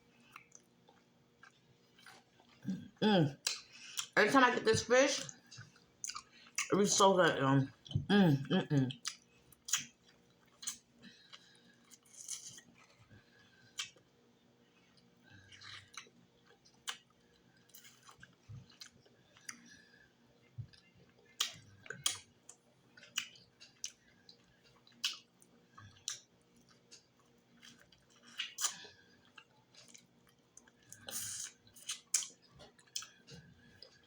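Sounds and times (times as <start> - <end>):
close chewing with lip smacks: 0.1 - 2.7, 3.4 - 4.2, 5.2 - 6.8, 8.9 - 14.1, 14.7 - 34.0.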